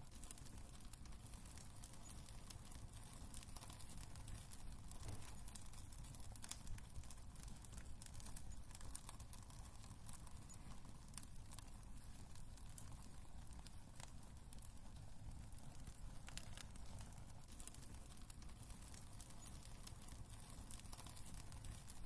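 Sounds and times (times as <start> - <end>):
fire pops and snaps: 0.0 - 22.0
flames rumbling: 0.0 - 22.0.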